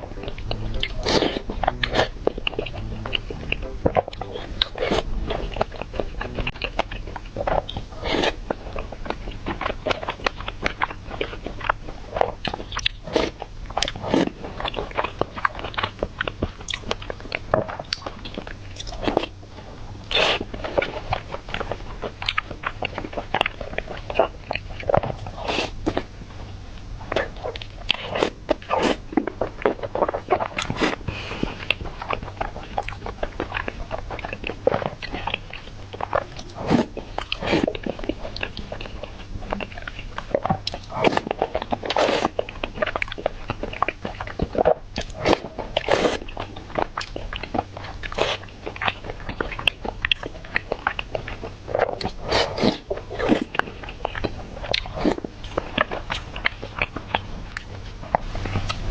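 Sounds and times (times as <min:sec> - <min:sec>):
person chewing food: 0:00.0 - 0:58.9.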